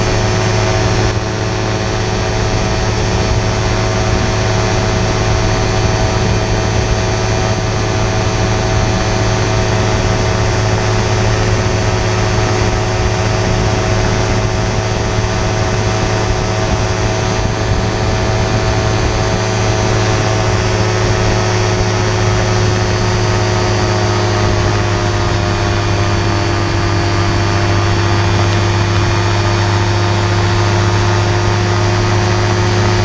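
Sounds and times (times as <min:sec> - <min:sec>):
gyroplane engine and propeller drone: 0:00.0 - 0:33.0.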